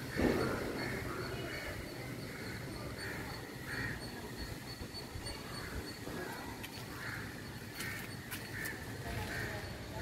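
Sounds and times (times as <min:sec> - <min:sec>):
bird harsh calls: 0:00.0 - 0:10.0.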